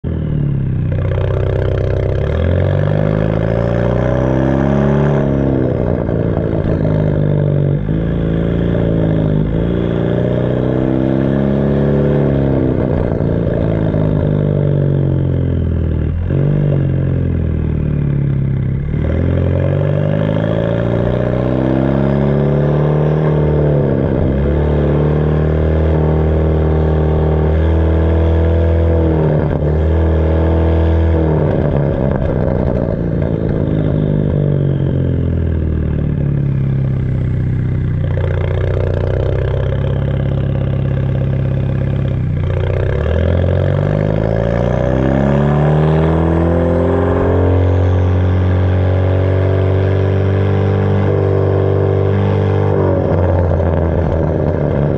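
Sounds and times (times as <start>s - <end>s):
raspy car exhaust revving: 0.0s - 54.9s.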